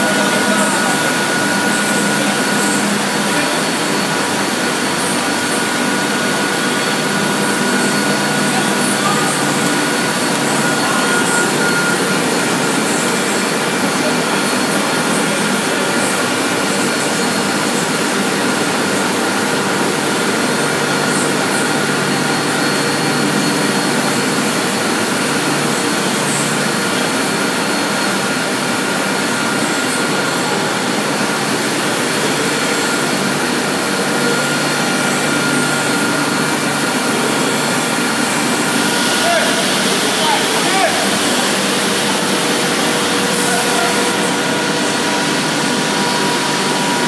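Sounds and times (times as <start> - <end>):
blowers whooshing with high whine: 0.0 - 47.0.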